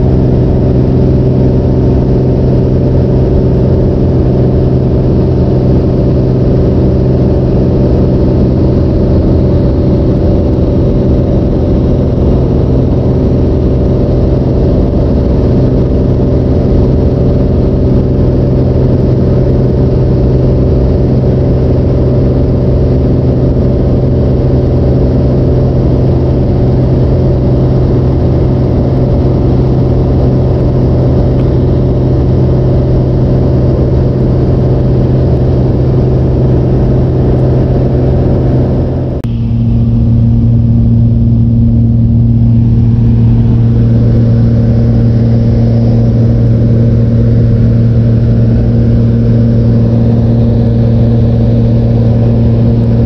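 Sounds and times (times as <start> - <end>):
aircraft engine and propeller droning: 0.0 - 53.0.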